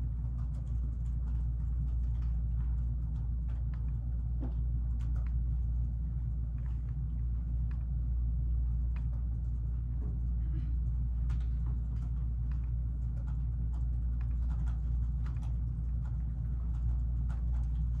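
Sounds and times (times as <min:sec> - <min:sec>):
faint clicks and taps: 0:00.0 - 0:18.0
low room noise rumble: 0:00.0 - 0:18.0.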